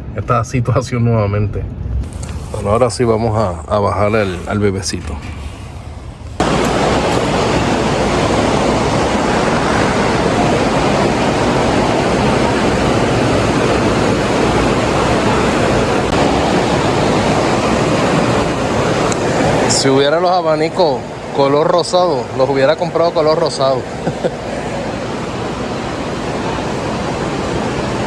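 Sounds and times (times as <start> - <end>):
electric fan rushing air: 1.6 - 28.0.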